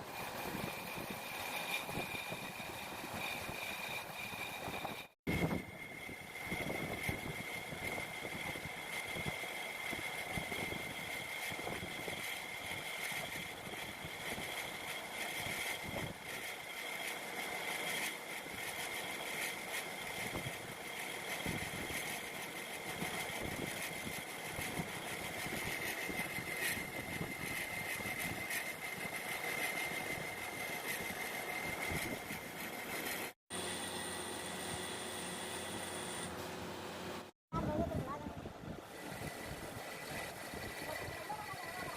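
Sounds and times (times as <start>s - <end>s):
lathe whining: 0.0s - 38.0s, 38.7s - 41.9s.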